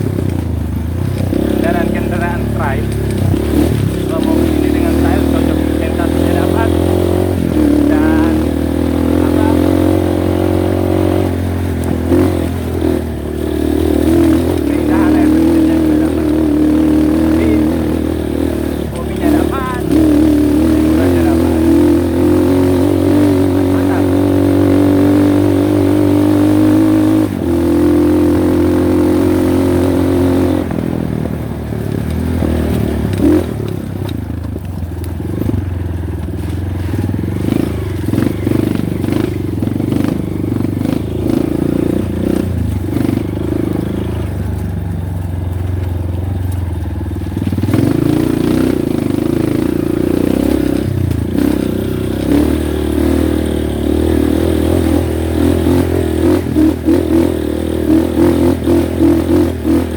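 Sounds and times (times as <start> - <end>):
motorcycle clattering over bumps: 0.0 - 59.9
motorcycle engine running: 0.0 - 59.9.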